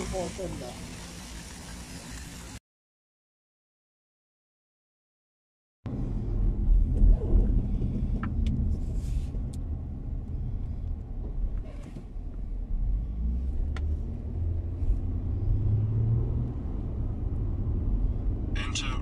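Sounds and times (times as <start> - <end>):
car engine and road rumble: 0.0 - 2.6, 5.9 - 19.0.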